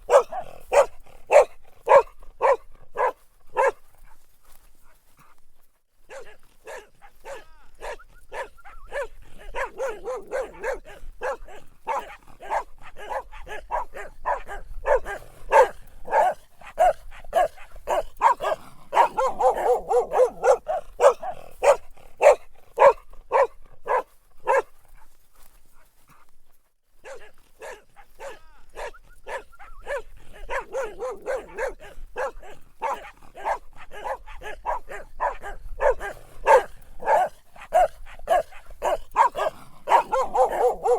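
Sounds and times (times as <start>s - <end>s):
dog barking: 0.0s - 4.2s, 6.0s - 25.1s, 27.0s - 40.9s.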